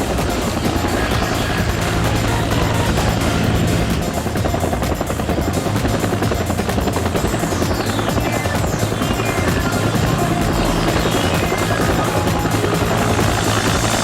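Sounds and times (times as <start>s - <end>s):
helicopter rotor chop: 0.0s - 14.0s
helicopter turbine whine: 0.0s - 14.0s.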